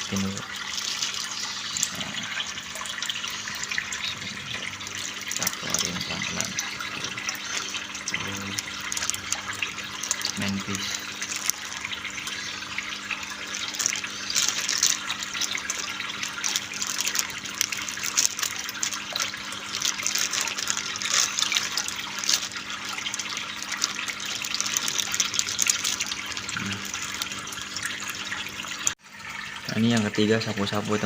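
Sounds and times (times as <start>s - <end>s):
water splashing into aquarium: 0.0s - 31.0s.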